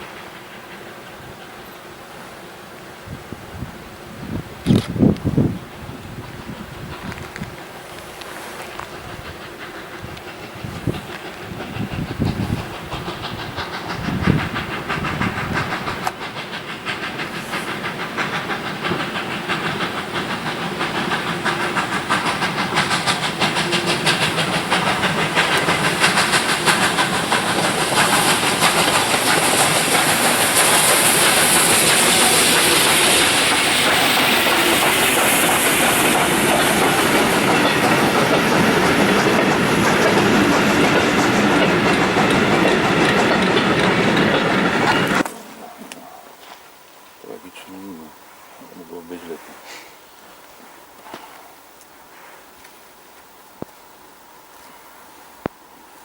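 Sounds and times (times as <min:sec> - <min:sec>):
steam hissing: 0:00.0 - 0:46.0, 0:46.7 - 0:53.8
steam train wheels and exhaust clatter: 0:00.0 - 0:56.0.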